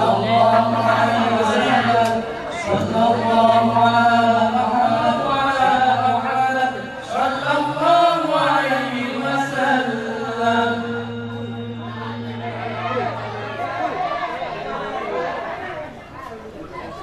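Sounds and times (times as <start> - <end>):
men chanting through microphones: 0.0 - 15.8.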